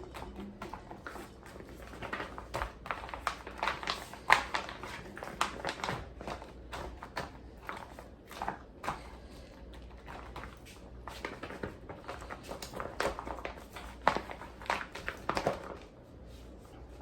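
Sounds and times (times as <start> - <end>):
plastic bags crinkling: 0.0 - 15.9.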